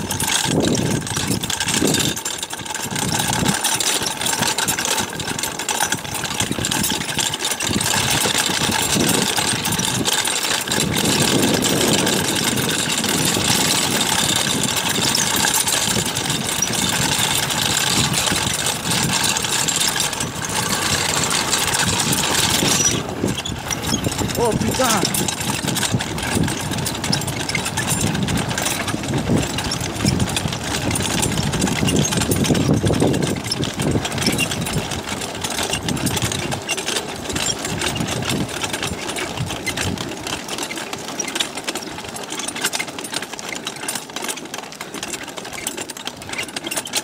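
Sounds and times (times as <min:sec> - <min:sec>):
kart frame rattling: 0:00.0 - 0:47.0
tyres rumbling over dirt: 0:00.0 - 0:47.0.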